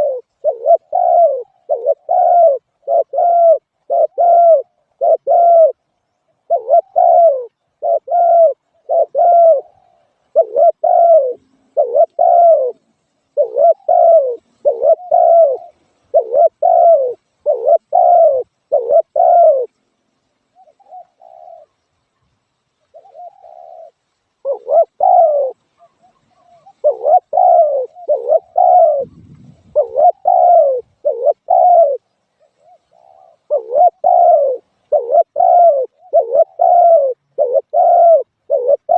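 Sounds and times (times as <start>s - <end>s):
dove cooing: 0.0s - 19.8s, 20.5s - 21.9s, 22.9s - 38.9s.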